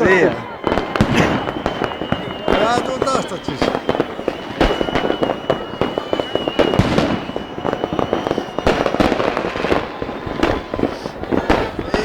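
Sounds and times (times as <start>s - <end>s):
fireworks and firecrackers banging: 0.0s - 12.0s
high whistle: 0.0s - 12.0s.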